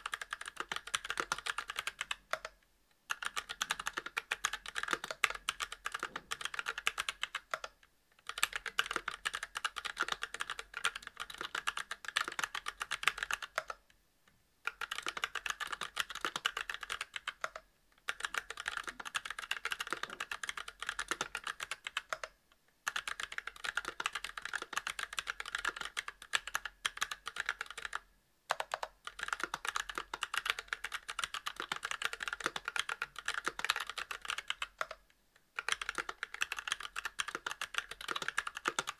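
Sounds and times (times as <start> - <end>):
mechanical keyboard typing: 0.0 - 13.9, 14.7 - 35.0, 35.6 - 38.9.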